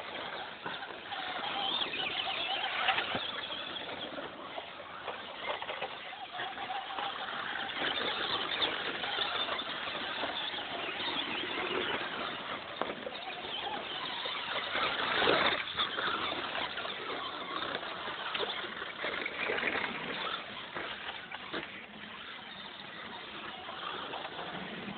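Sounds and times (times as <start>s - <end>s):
rc car motors whining: 0.0s - 24.9s
tyres scrabbling: 0.0s - 24.9s.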